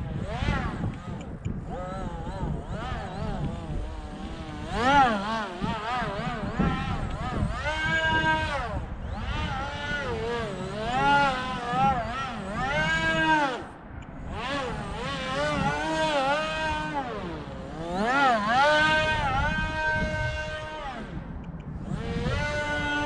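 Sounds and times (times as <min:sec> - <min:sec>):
small motor and propeller whine: 0:00.0 - 0:23.0
wind rumble on microphone: 0:00.0 - 0:23.0.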